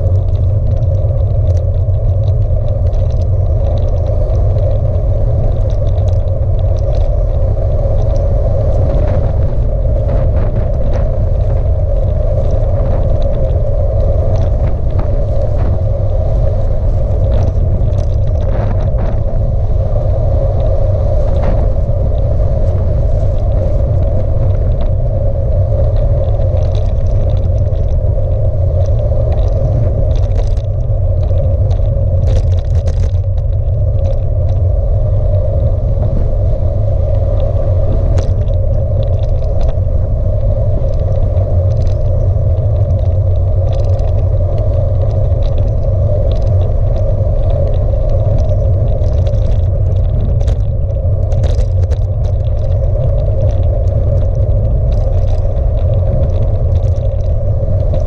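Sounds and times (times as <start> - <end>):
clicks and knocks from bumps: 0.0 - 25.0, 25.8 - 34.7, 38.1 - 39.8, 40.8 - 58.0
tyre and road noise: 0.0 - 58.0
wind rumbling on microphone: 0.0 - 58.0.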